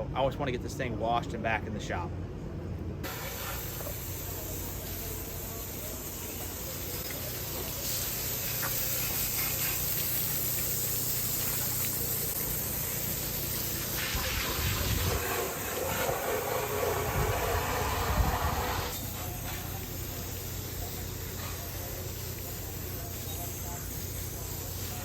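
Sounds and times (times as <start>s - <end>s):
pressure washer spraying water: 3.0s - 25.0s.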